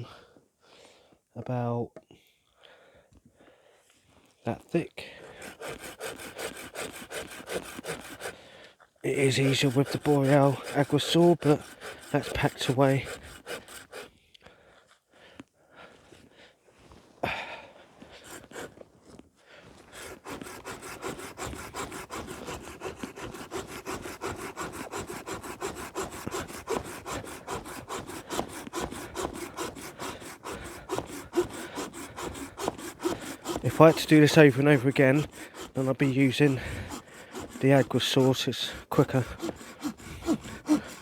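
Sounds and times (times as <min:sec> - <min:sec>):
hand saw cutting wood: 0:04.7 - 0:14.2, 0:17.2 - 0:41.0.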